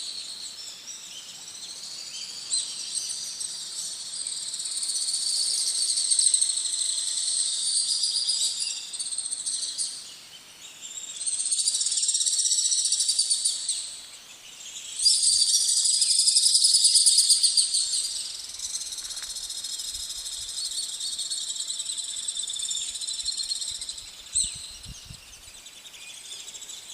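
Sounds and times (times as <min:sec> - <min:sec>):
insects buzzing: 0:00.0 - 0:26.9.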